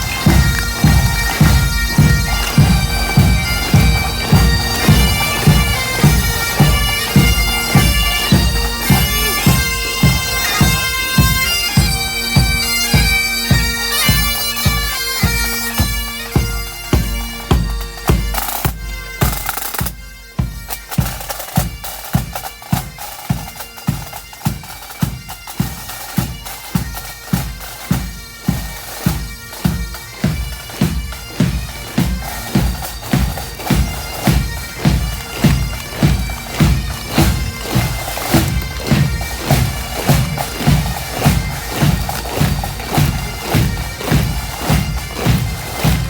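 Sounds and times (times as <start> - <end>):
bagpipes playing: 0.0 - 46.0
marching drum beat: 0.0 - 46.0.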